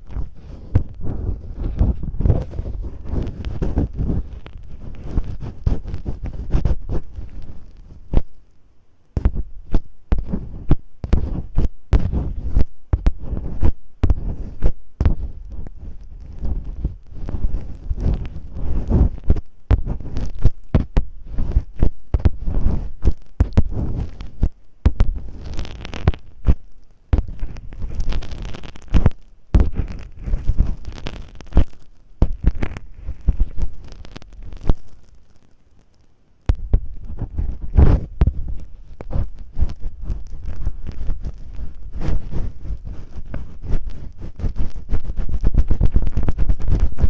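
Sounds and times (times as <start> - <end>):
muffled thumps: 0.0 - 8.4, 9.2 - 35.1, 36.5 - 47.0
masking tape crackling on microphone: 0.0 - 47.0.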